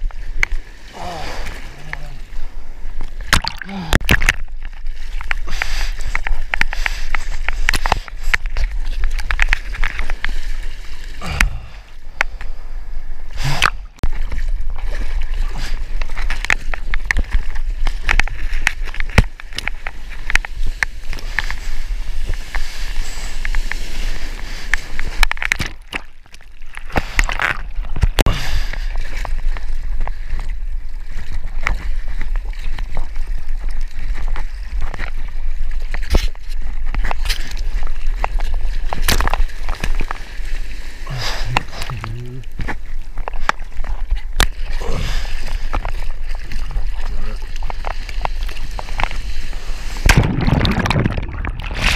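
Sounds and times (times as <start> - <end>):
sea water sloshing and splashing: 0.0 - 51.9.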